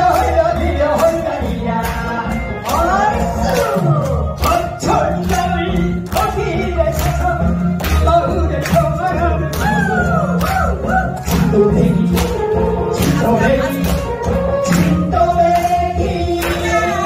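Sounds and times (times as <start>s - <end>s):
amplified backing track: 0.0s - 17.0s
audience clapping along: 0.0s - 17.0s
person singing into microphone: 0.0s - 17.0s.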